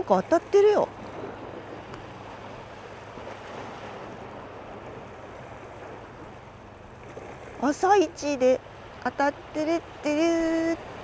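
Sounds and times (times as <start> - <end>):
small waves on rocky shore: 0.0 - 11.0.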